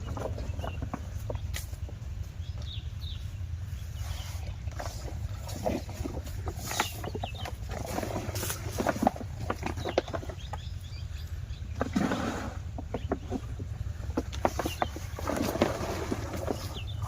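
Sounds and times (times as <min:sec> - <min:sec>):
diesel water pump engine running: 0:00.0 - 0:17.0.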